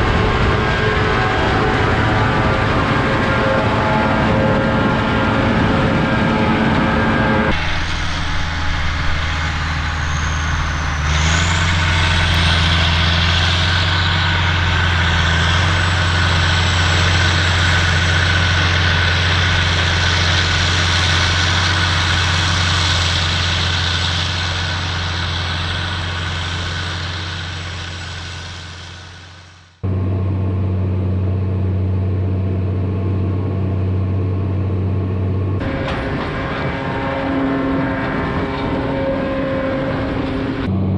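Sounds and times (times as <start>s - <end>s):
heavy engine droning: 0.0s - 40.9s.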